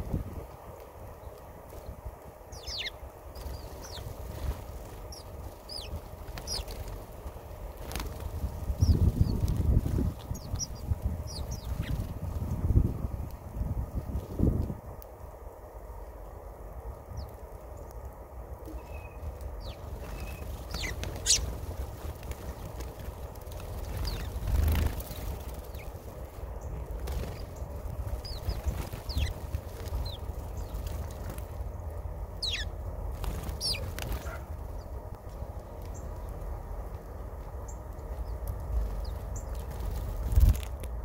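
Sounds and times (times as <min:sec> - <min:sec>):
small birds chirping: 0:00.0 - 0:12.9, 0:16.9 - 0:40.7
steady low rumble: 0:00.0 - 0:41.0.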